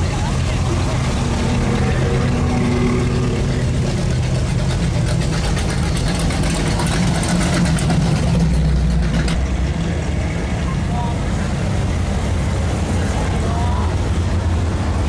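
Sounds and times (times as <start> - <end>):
car engines cruising past: 0.0 - 15.0.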